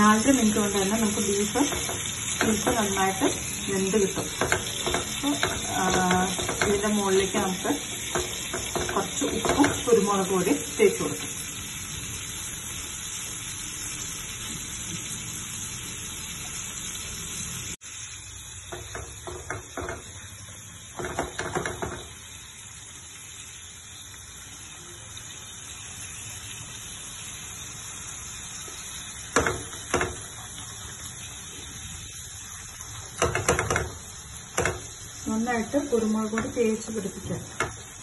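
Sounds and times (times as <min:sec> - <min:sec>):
steak sizzling in pan: 0:00.0 - 0:38.0.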